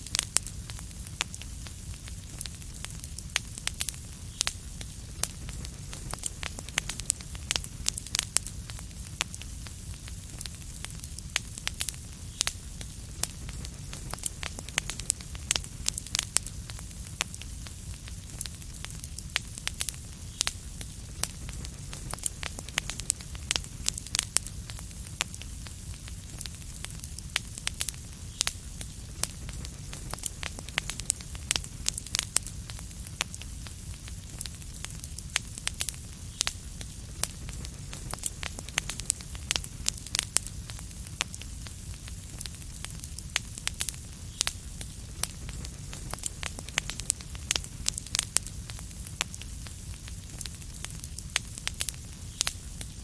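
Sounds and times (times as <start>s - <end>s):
low rumble and hiss: 0.0s - 53.0s
wood fire crackling and popping: 0.0s - 53.0s.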